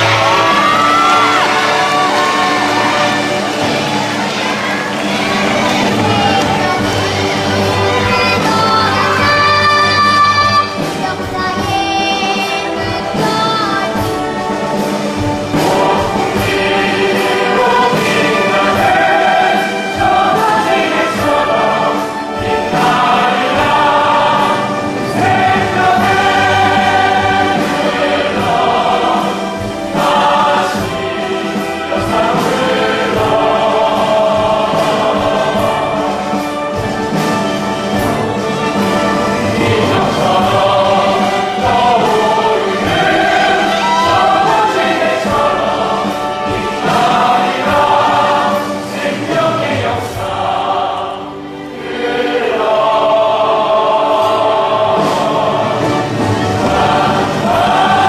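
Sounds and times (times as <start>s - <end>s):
choir singing: 0.0s - 58.0s
orchestral accompaniment: 0.0s - 58.0s.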